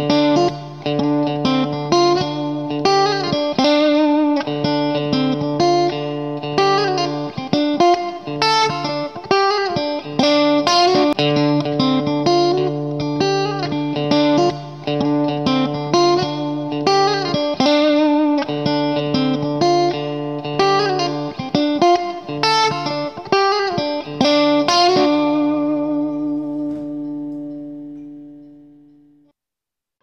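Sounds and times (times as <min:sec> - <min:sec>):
guitar playing a tune: 0:00.0 - 0:29.3.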